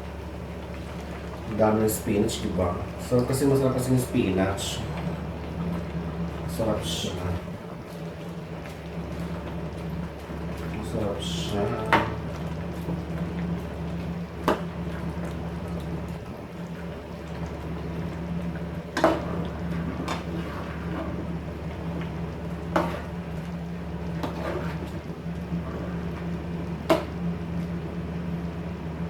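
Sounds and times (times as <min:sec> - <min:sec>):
steady low hum: 0:00.0 - 0:29.0
stew simmering in a pot: 0:00.0 - 0:29.0.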